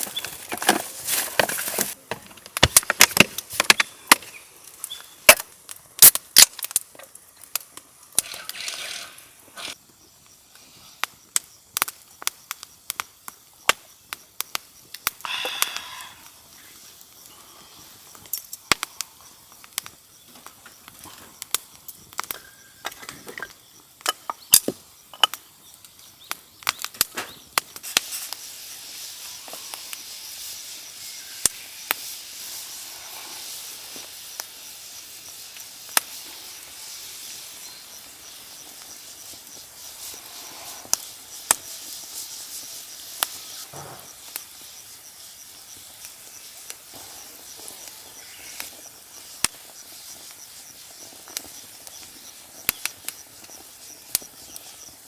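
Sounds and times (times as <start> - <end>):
campfire crackling and popping: 0.0 - 55.0
fire hissing: 0.0 - 55.0.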